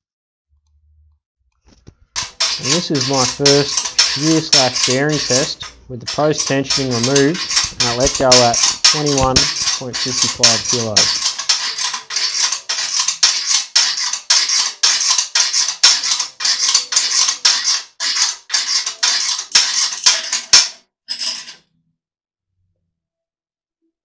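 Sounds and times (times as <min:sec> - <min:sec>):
fast rasping strokes: 0:02.2 - 0:21.6.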